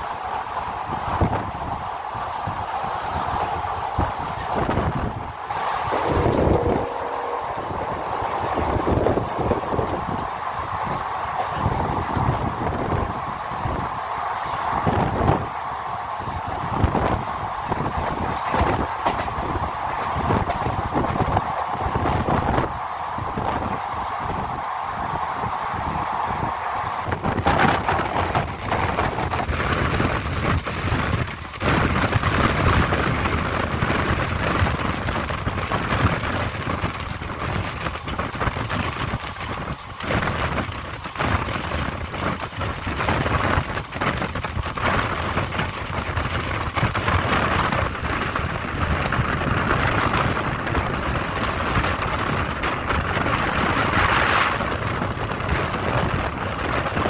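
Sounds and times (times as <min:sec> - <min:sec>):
train wheel and rail noise: 0:00.0 - 0:57.0
wind buffeting microphone: 0:00.0 - 0:57.0.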